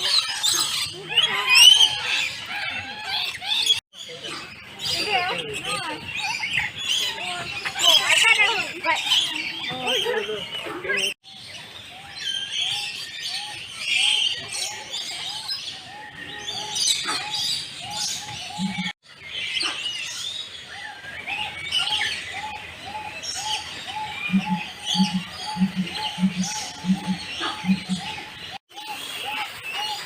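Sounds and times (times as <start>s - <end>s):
many birds chirping: 0.0s - 30.0s.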